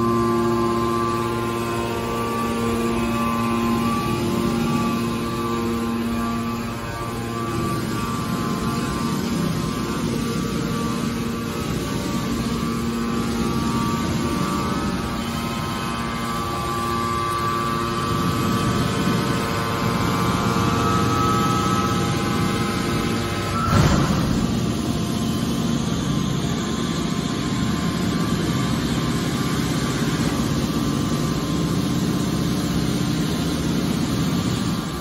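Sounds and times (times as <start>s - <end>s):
hydraulic pump humming and whining: 0.0s - 35.0s.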